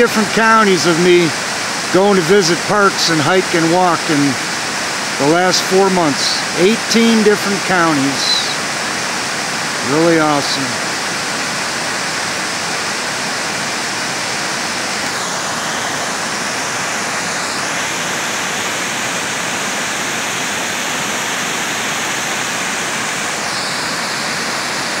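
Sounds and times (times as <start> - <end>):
water rushing over spillway: 0.0 - 25.0.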